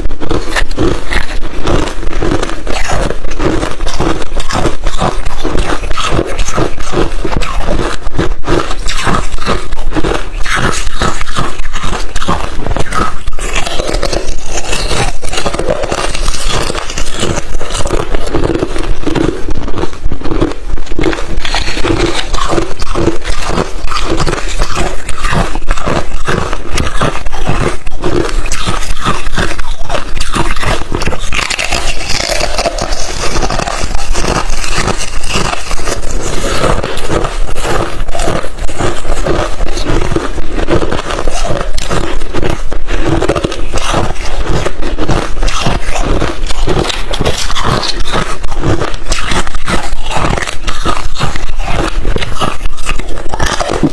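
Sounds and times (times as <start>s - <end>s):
chewing ice crunching: 0.0s - 53.9s.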